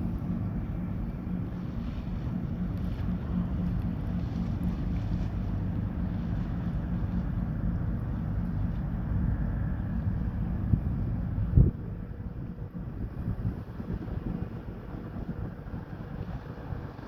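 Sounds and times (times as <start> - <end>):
ferry engines humming: 0.0 - 17.0
wind on microphone: 0.0 - 17.0.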